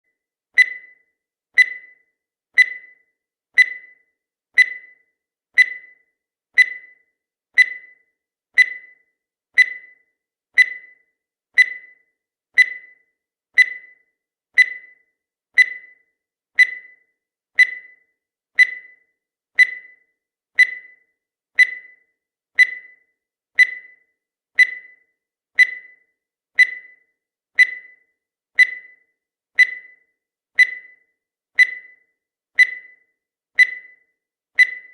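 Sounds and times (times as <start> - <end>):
high timer ticks: 0.5 - 34.9.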